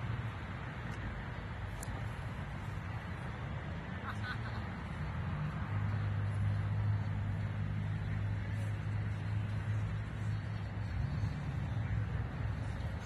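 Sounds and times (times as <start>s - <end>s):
traffic noise: 0.0s - 13.0s
vehicle engine humming: 0.0s - 13.0s.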